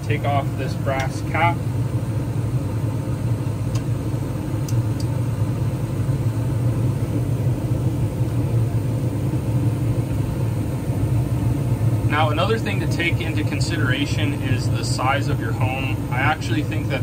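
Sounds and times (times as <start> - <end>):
gas furnace rumbling: 0.0 - 17.0.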